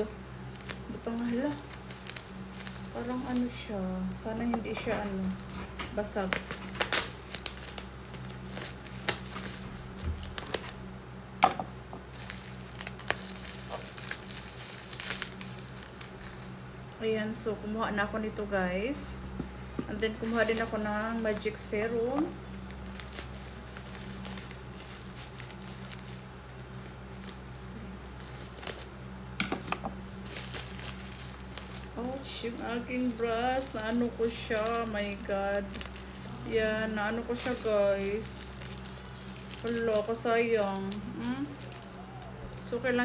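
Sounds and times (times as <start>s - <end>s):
plastic wrapping crinkling and tearing: 0.0s - 4.2s, 5.1s - 10.9s, 12.1s - 16.8s, 20.0s - 29.4s, 30.1s - 43.0s.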